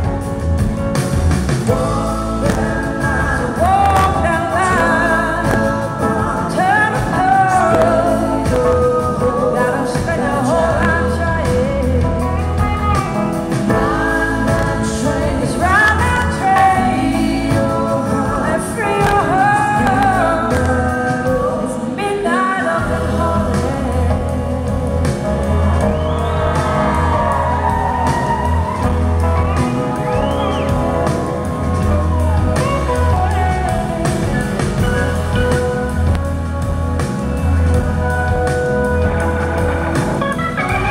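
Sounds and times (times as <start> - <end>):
electric guitar: 0.0 - 40.9
live blues band playing: 0.0 - 40.9
woman singing: 1.6 - 36.3.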